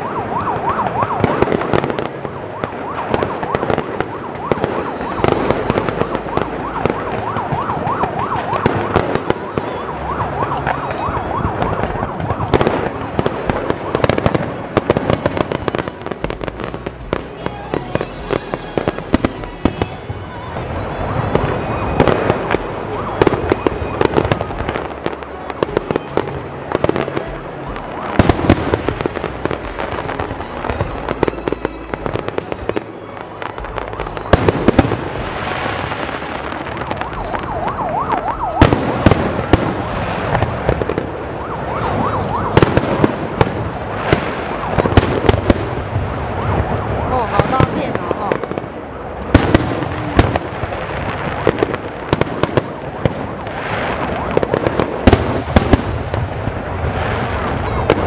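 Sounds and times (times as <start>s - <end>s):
loud firework bangs: 0.0s - 58.0s
firework shell bursts and crackling: 0.5s - 58.0s.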